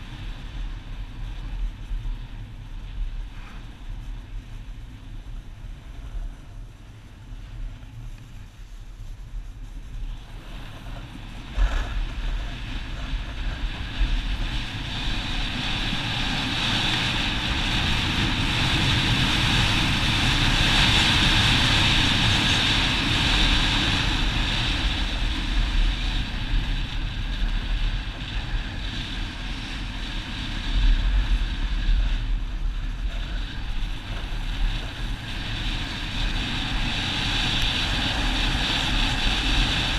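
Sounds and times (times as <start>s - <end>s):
snowboard scraping over snow: 0.0s - 39.9s
wind buffeting microphone: 0.0s - 39.9s.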